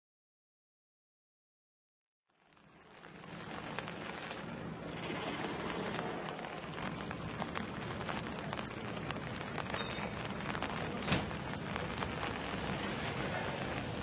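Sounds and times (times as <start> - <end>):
crackling hiss with sharp ticks: 2.3 - 14.0.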